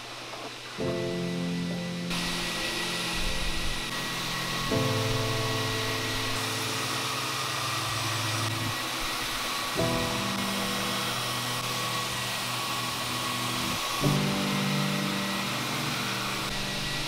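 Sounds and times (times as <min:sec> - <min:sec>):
belt sander running: 0:00.9 - 0:17.0.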